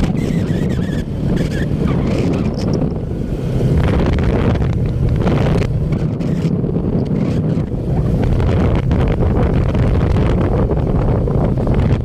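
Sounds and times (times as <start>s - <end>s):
atv engine running: 0.0s - 12.0s
wind rushing over microphone: 0.0s - 12.0s.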